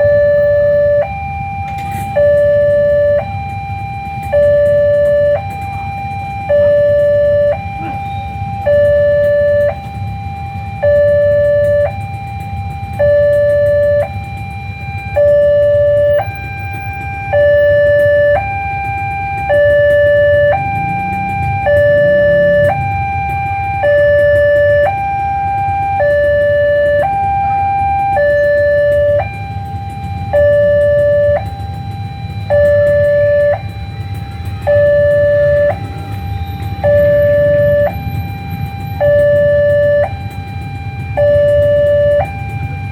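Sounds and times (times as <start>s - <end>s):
alternating two-tone warning siren: 0.0s - 42.9s.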